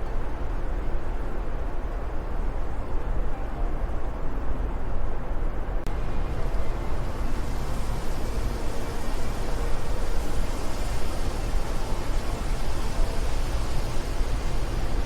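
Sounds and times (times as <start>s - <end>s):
wind blowing: 0.0s - 15.0s.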